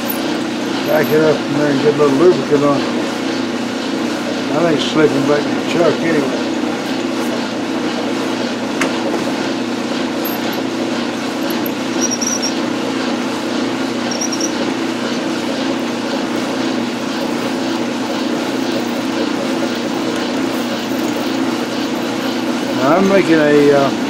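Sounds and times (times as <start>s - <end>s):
metal lathe running: 0.0s - 24.0s.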